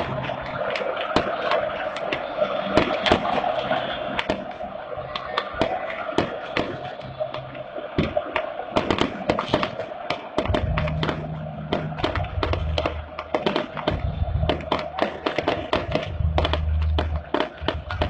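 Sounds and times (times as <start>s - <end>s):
crowd din: 0.0s - 18.0s
fireworks cracking: 0.0s - 18.0s.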